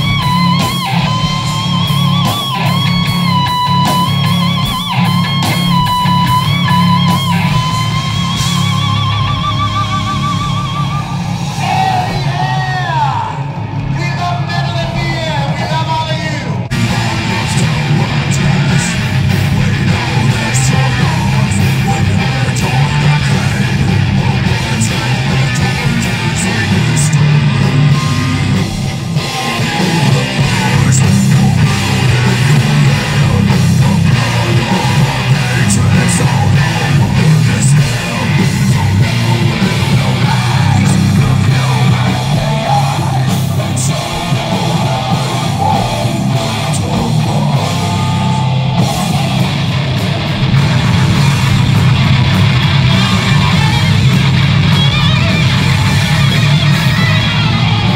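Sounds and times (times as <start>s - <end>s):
heavy metal band playing: 0.0s - 57.9s.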